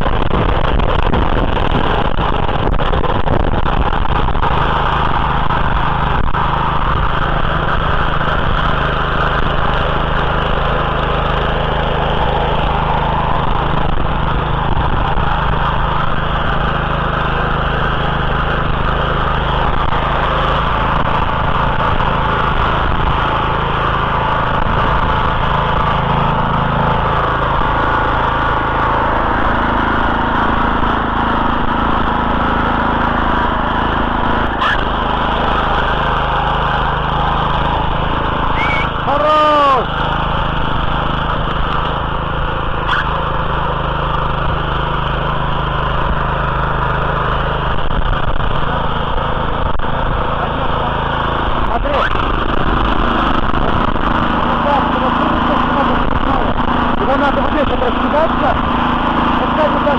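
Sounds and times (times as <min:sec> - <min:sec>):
rotary tines churning soil: 0:00.0 - 0:59.9
tiller engine running under load: 0:00.0 - 0:59.9.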